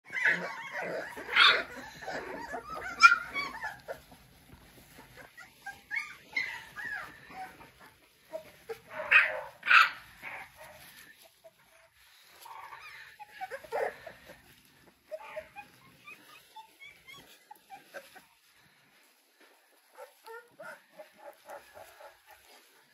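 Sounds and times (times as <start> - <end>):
puppies whimpering and yipping: 0.1 - 22.9.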